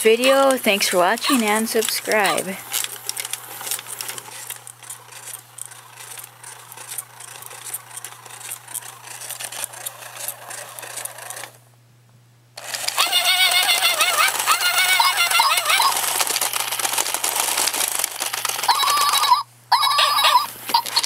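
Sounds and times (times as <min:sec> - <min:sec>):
toy motors whirring and clicking: 0:00.0 - 0:11.6, 0:12.6 - 0:21.0.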